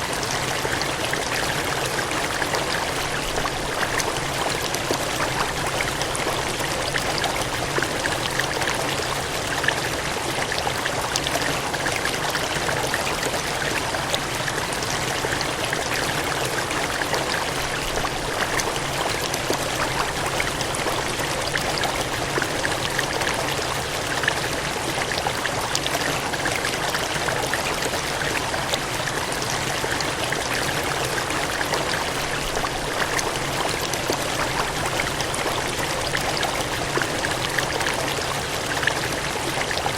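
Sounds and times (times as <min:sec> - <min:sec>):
water gushing and cascading: 0:00.0 - 0:39.9.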